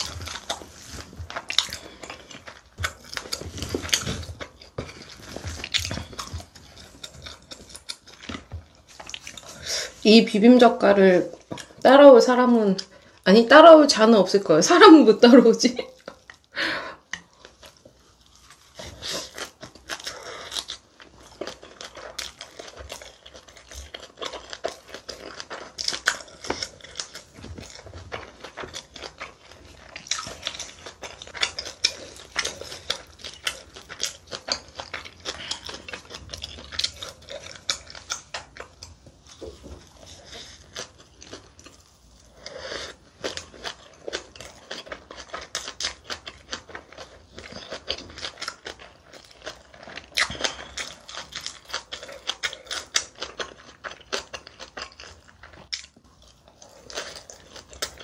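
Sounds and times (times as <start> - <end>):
crunchy chewing close up: 0.0 - 10.1, 15.9 - 58.0.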